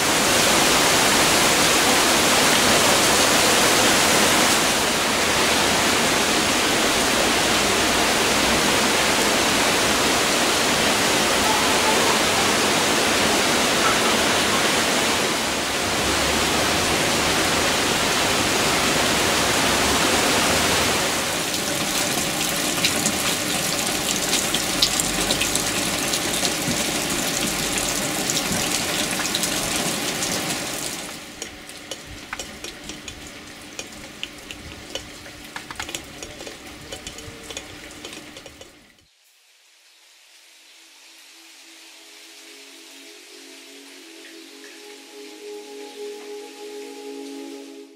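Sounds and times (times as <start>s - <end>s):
rain splashing on flooded pavement: 0.0s - 38.8s
water spilling from drain: 0.0s - 39.0s
rain dripping on leaves: 0.0s - 45.3s.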